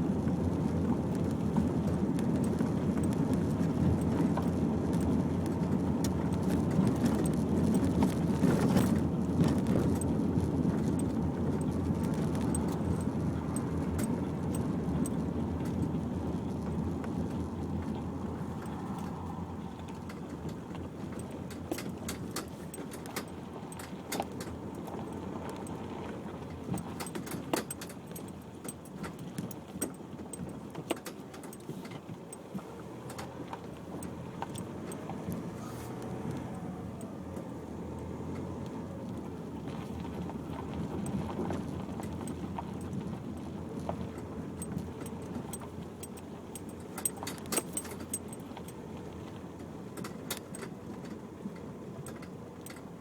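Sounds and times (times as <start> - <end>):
car engine and tyres rumbling: 0.0 - 53.0
car interior rattles and clicks: 0.0 - 53.0.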